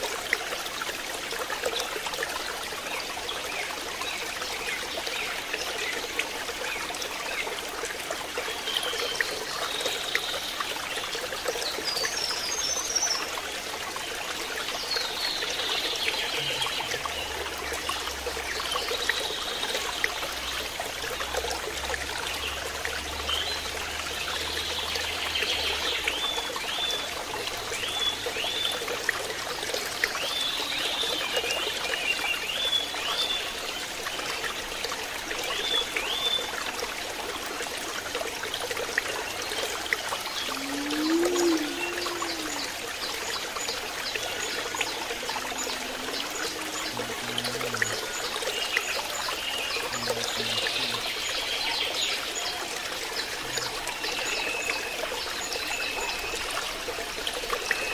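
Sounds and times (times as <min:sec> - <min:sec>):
trickle of running water: 0:00.0 - 0:57.9.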